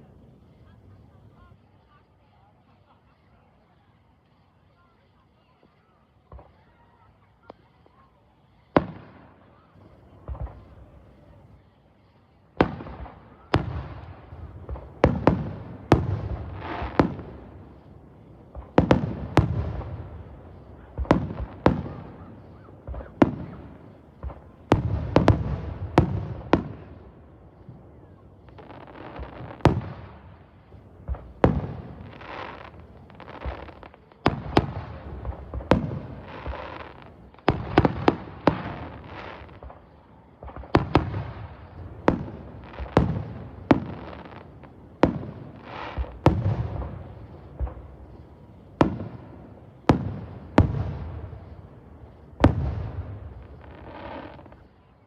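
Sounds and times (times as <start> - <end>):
fireworks banging: 0.0 - 54.8.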